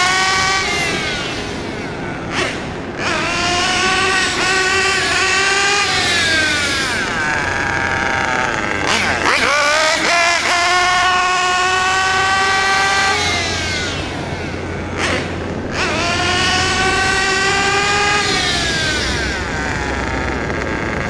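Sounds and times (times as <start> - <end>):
model car engine revving: 0.0 - 21.0.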